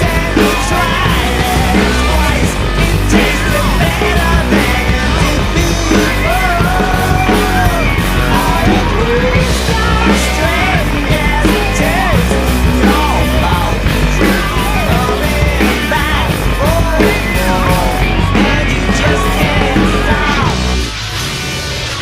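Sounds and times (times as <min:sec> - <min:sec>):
band music with singing: 0:00.0 - 0:22.0.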